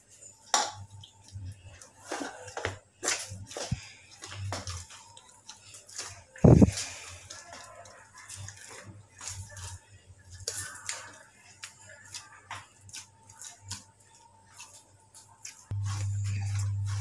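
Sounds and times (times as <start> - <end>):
dough squishing in steel bowl: 0.3 - 17.0.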